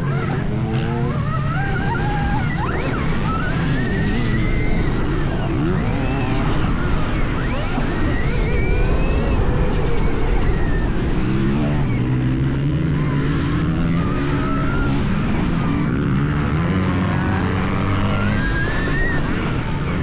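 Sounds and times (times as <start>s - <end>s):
electric motorbike motor whine: 0.0s - 20.0s.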